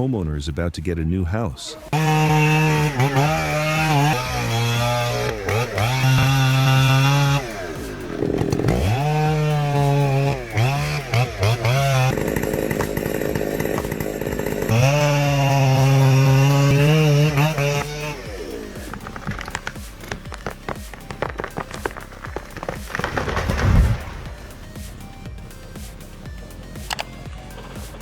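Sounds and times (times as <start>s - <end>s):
chainsaw revving: 1.9s - 28.0s.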